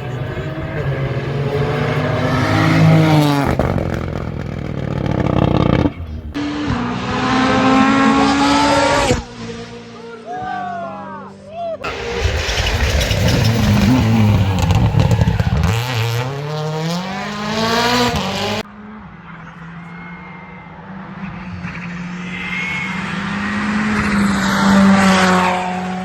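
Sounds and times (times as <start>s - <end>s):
rally car engine accelerating: 0.0s - 10.0s, 11.8s - 18.7s, 20.8s - 26.0s
rally car passing by: 0.0s - 10.2s, 11.8s - 26.0s.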